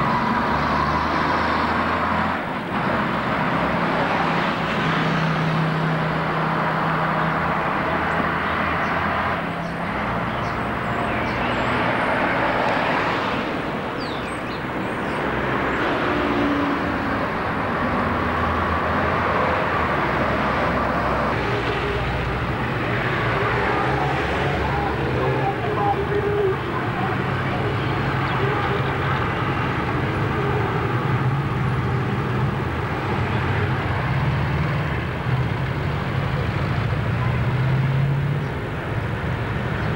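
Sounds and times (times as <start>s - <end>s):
traffic engine hum and road noise: 0.0s - 39.9s.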